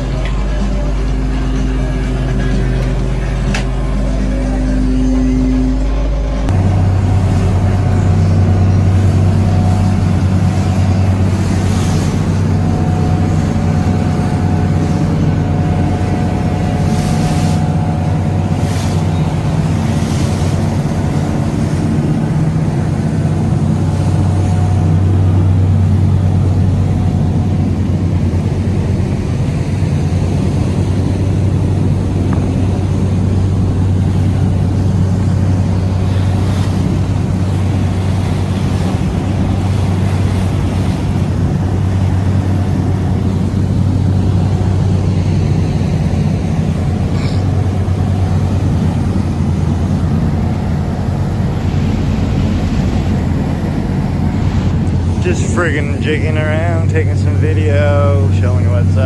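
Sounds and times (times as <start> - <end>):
boat engine drone: 0.0 - 59.0
water rushing along hull: 0.0 - 59.0.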